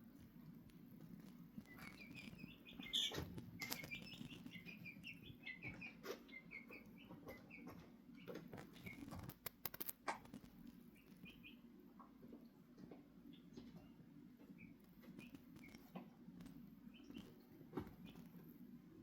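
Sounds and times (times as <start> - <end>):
chickens peeping: 1.0 - 18.4.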